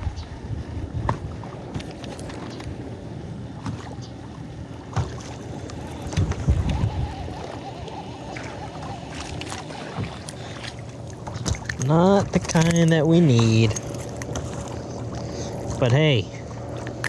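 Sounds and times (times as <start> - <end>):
water sloshing against kayak hull: 1.0 - 15.8.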